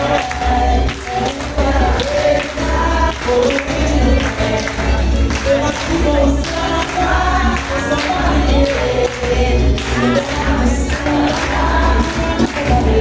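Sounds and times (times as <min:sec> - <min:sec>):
voices singing together: 0:00.0 - 0:13.0.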